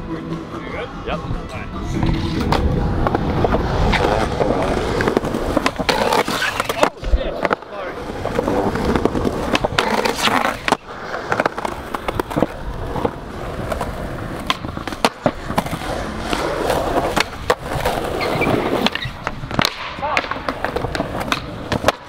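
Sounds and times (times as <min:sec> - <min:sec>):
skateboard wheels rumbling: 0:00.0 - 0:22.0
skateboard clacking: 0:01.8 - 0:22.0.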